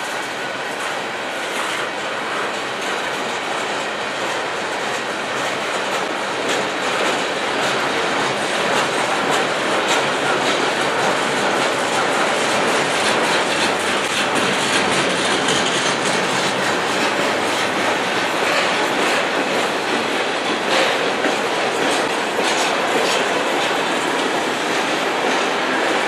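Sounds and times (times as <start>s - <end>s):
train wheels rumbling on rails: 0.0s - 26.0s
wheels clacking over rail joints: 0.0s - 26.0s.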